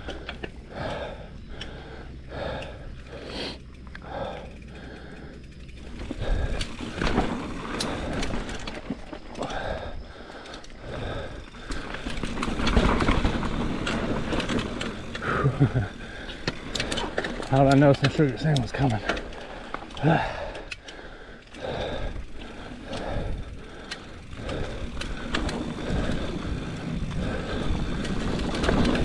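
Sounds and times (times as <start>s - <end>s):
rider breathing hard: 0.0s - 17.5s, 18.6s - 29.0s
mountain bike rattling on rough trail: 0.0s - 29.0s.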